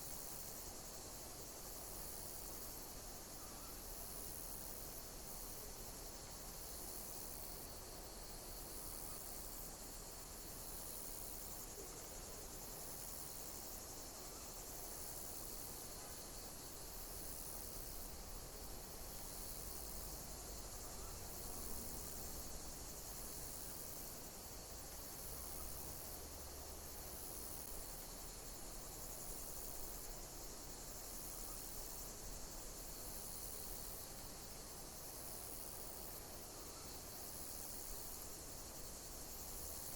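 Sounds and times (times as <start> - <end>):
insects chirping chorus: 0.0 - 39.9.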